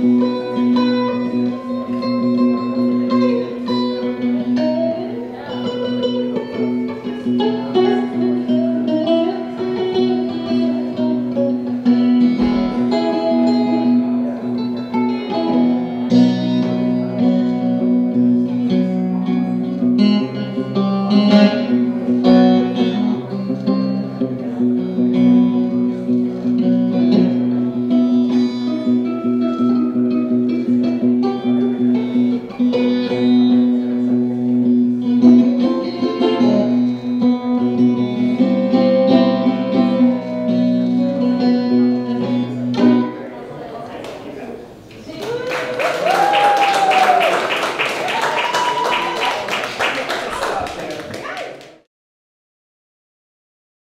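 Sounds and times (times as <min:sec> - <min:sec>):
plucked guitar notes: 0:00.0 - 0:43.7.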